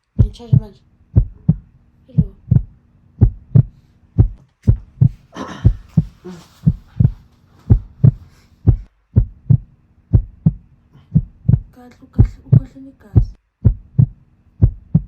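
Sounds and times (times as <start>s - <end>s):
heartbeat thumps: 0.0s - 15.0s.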